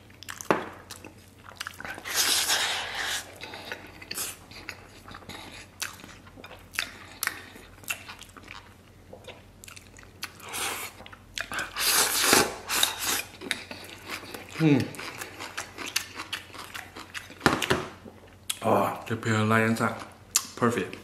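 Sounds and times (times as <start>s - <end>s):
close chewing: 0.0s - 17.4s.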